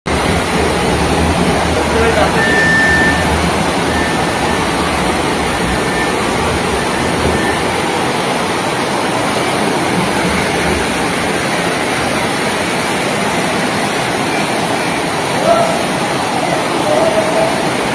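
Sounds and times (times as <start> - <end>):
floodwater rushing: 0.1 - 17.9.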